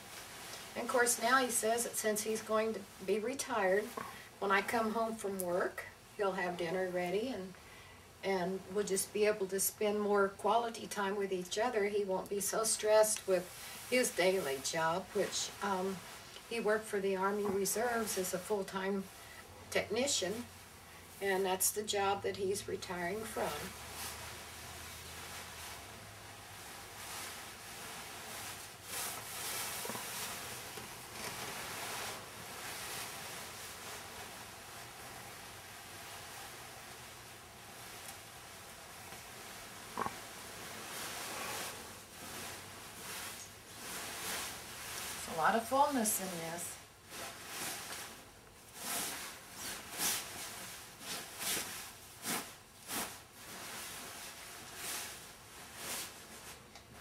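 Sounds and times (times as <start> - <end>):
gown fabric rustling: 0.0 - 7.5, 11.3 - 57.0.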